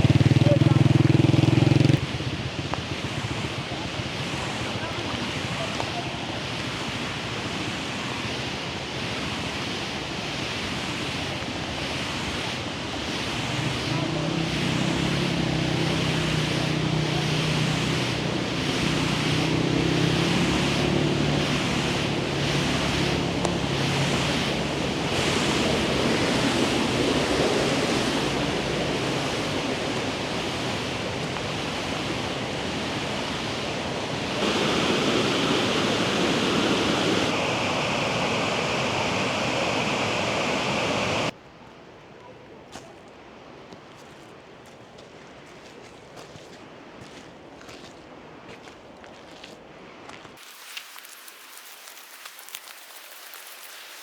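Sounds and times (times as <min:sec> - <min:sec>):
mountain stream rushing: 0:00.0 - 0:41.4, 0:43.2 - 0:54.0.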